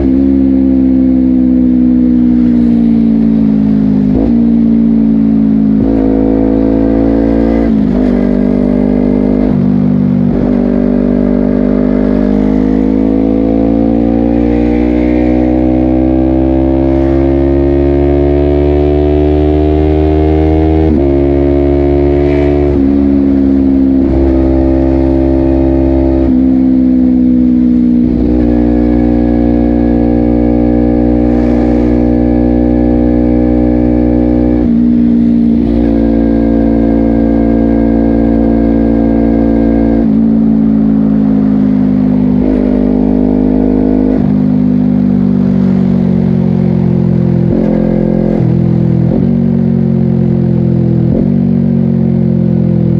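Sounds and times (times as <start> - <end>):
motorcycle engine with gear changes: 0.0 - 52.9.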